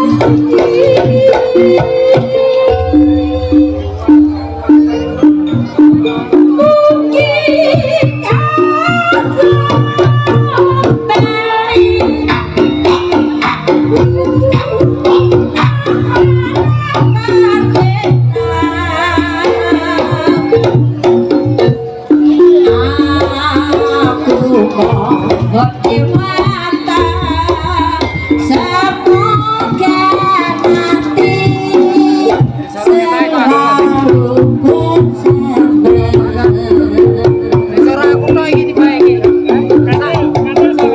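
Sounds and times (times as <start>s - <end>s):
gong and metallophone notes: 0.0s - 40.9s
hand drums playing busy rhythm: 0.0s - 40.9s
wavering melody line: 0.0s - 40.9s.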